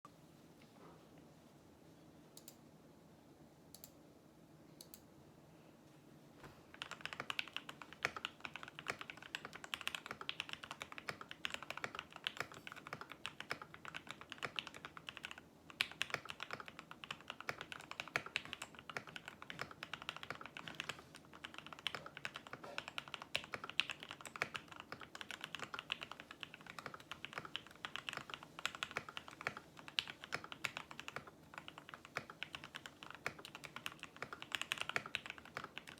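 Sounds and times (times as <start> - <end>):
typing on mechanical keyboard: 6.7 - 35.9.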